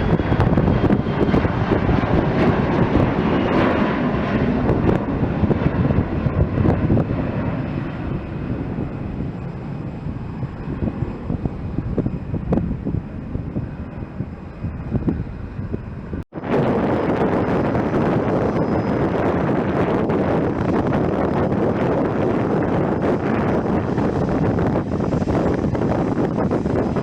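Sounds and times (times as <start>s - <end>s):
airliner engines rushing: 0.0s - 27.0s.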